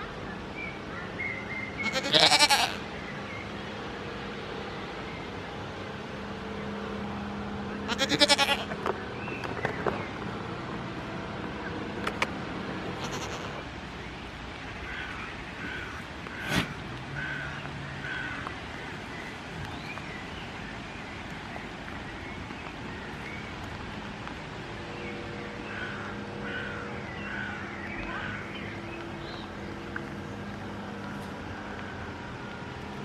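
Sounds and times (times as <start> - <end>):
low engine hum: 0.0 - 33.0
outdoor background hiss: 0.0 - 33.0.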